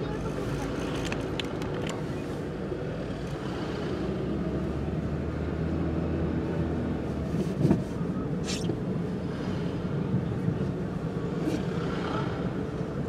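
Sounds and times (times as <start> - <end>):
car engine and tyre hum: 0.0 - 13.0.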